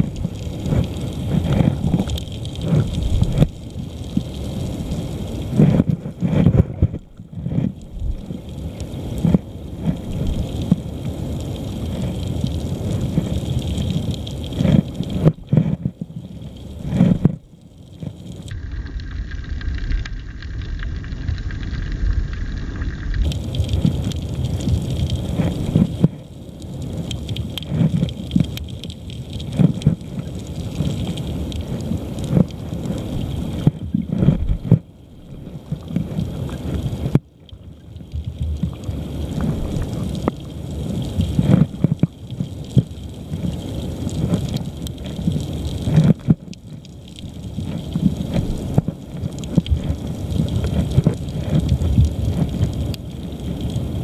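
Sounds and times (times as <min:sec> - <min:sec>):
knocks of stones underwater: 0:00.0 - 0:54.0
underwater river current rumble: 0:00.0 - 0:54.0.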